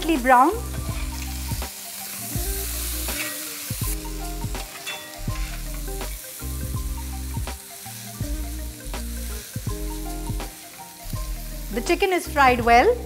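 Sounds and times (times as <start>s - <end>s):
chicken sizzling in hot oil: 0.0s - 13.0s
soft background music: 0.0s - 13.0s.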